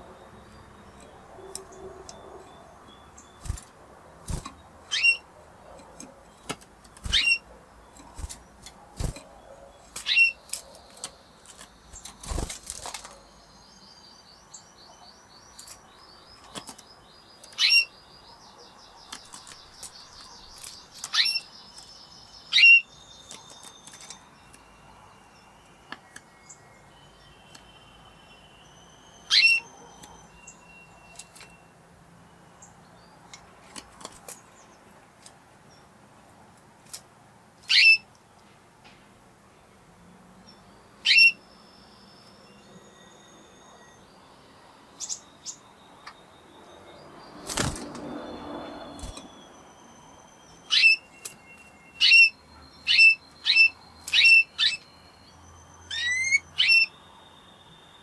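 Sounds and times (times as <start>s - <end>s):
canary chirps sweeping downward: 0.0s - 5.3s, 6.3s - 31.8s, 37.6s - 38.1s, 40.4s - 58.0s
soft rolling bird trill: 0.0s - 33.4s, 40.4s - 58.0s.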